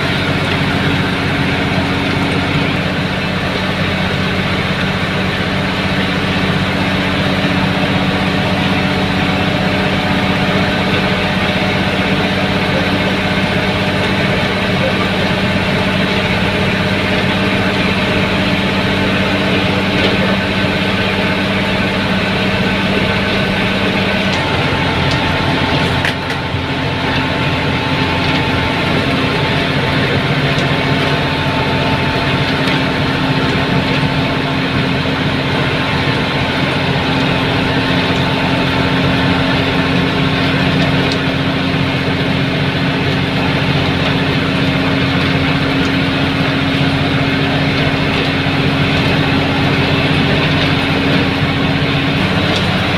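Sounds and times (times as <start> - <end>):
bus diesel engine droning: 0.0 - 52.9
road noise: 0.0 - 52.9.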